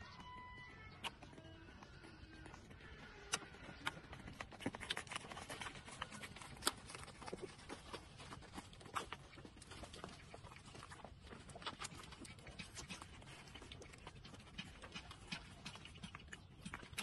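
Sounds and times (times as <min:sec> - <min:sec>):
puppies suckling: 0:00.0 - 0:17.0.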